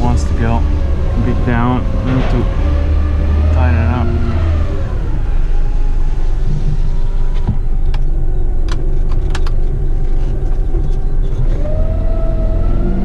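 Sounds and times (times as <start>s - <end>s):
diesel truck engine: 0.0s - 13.0s.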